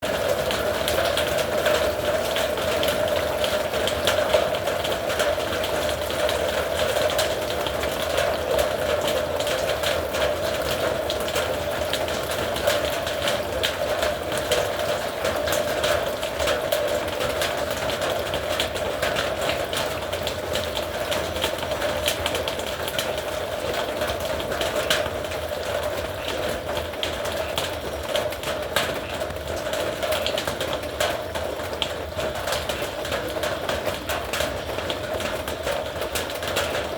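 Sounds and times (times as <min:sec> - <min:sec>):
heavy rain on a metal roof: 0:00.0 - 0:36.9.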